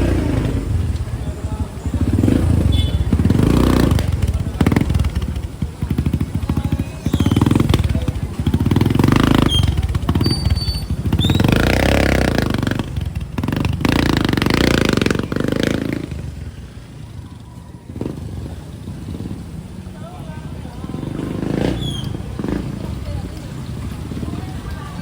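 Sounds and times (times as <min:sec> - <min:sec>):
small vehicle engines passing: 0:00.0 - 0:25.0.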